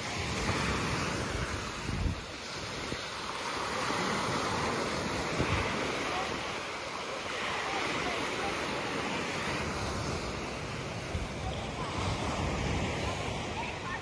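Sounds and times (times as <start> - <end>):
surf breaking on shore: 0.0 - 14.0
wind buffeting microphone: 0.0 - 14.0.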